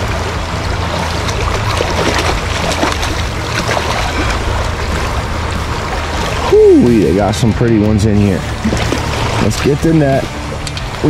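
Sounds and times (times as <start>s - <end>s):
stream water rushing over rocks: 0.0s - 11.0s.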